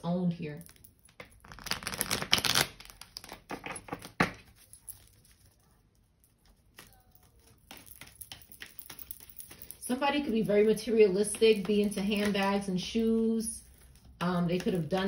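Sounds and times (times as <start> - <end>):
cards rustling and clicking: 0.7 - 15.0.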